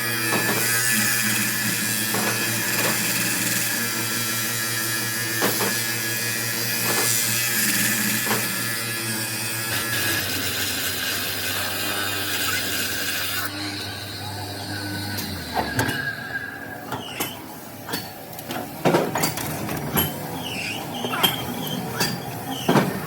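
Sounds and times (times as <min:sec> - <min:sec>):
metalworking machinery grinding: 0:00.0 - 0:23.0.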